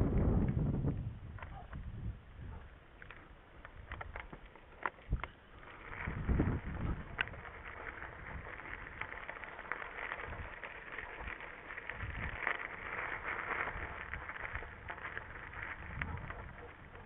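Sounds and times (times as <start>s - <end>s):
wind rumbling on microphone: 0.0s - 4.4s, 5.0s - 17.0s
bike tyres crunching on gravel: 0.0s - 17.0s.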